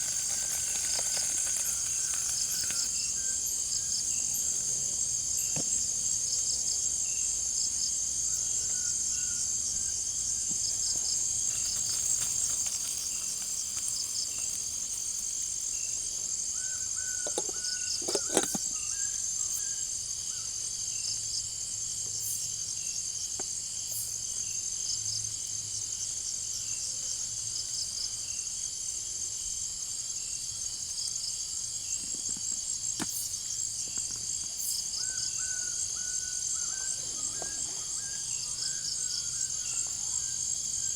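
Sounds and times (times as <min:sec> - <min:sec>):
insects buzzing and chirping: 0:00.0 - 0:40.9.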